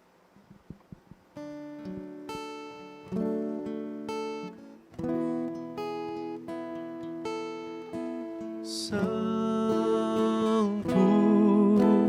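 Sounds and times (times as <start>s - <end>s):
acoustic guitar strumming chords: 0.7s - 12.0s.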